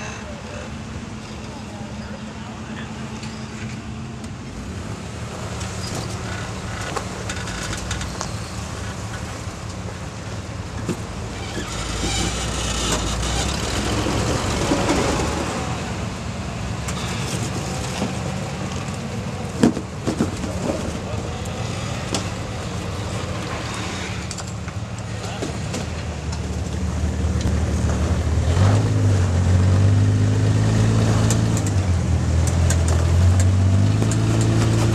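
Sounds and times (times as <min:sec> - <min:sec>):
engine running under load: 0:00.0 - 0:34.9.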